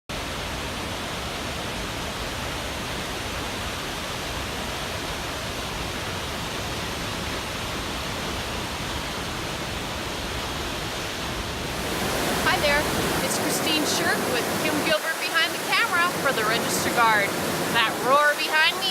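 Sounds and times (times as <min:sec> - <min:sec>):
whitewater river roaring: 0:00.1 - 0:18.9.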